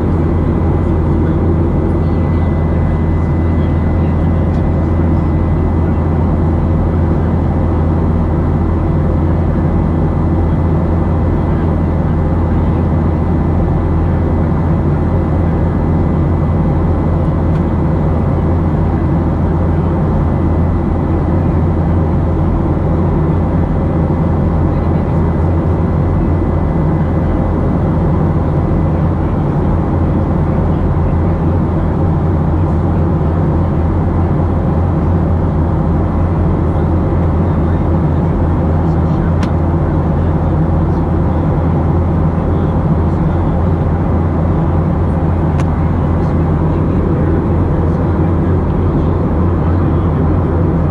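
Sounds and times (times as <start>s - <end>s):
jet engines low drone: 0.0s - 50.9s.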